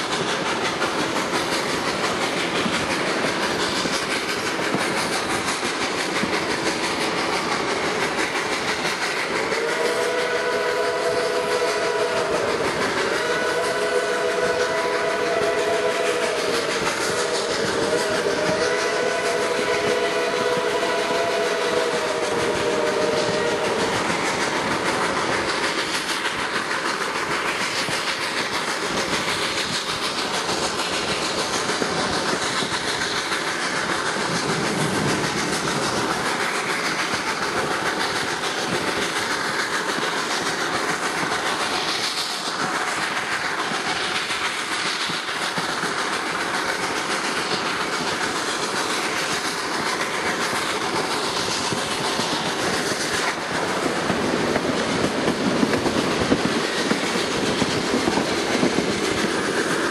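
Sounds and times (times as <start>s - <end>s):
train wheels clattering over rails: 0.0s - 59.9s.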